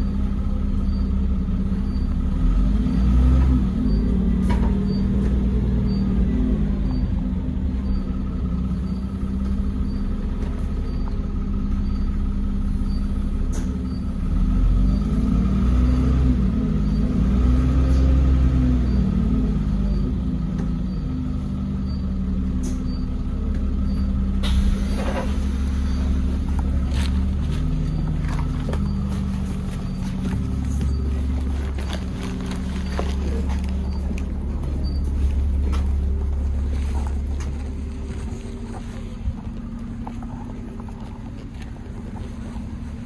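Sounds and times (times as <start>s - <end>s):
bus engine pulling through gears: 0.0s - 43.0s.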